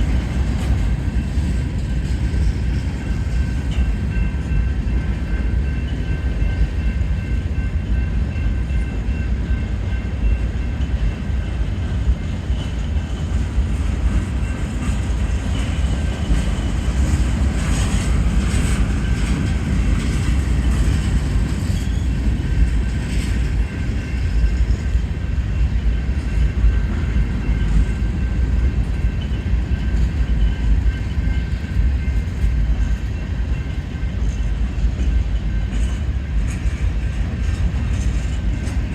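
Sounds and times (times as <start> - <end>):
rail joint clicks: 0.0 - 38.9
train wheels rumbling on rail: 0.0 - 38.9.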